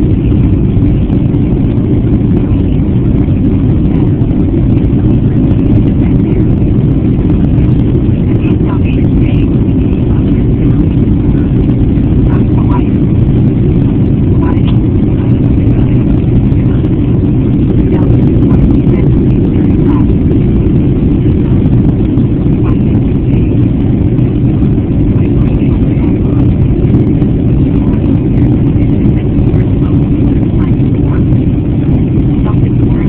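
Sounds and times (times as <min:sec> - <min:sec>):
jet engine roar in cabin: 0:00.0 - 0:33.0
rushing air: 0:00.0 - 0:33.0.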